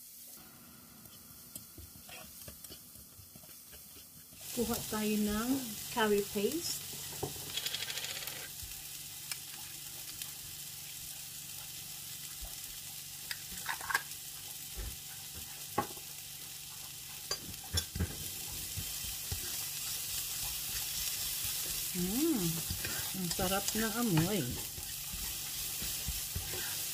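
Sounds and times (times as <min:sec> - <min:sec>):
onions sizzling in frying pan: 0:00.0 - 0:07.7, 0:08.5 - 0:26.9.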